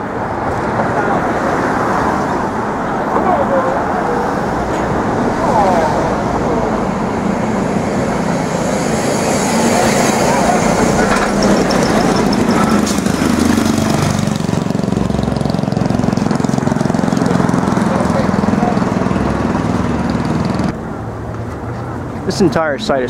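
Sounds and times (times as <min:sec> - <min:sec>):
road traffic: 0:00.0 - 0:23.0
vehicle engines running: 0:00.0 - 0:23.0.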